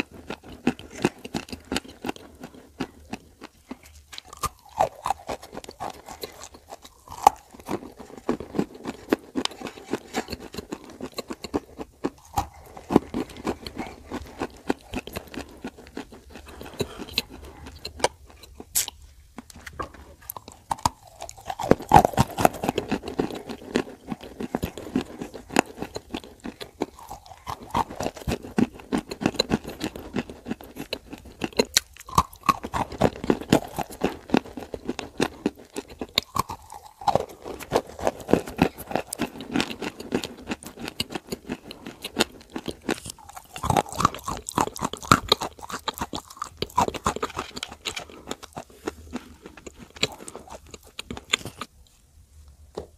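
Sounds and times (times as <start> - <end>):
crunching and chewing clay: 0.0 - 52.0.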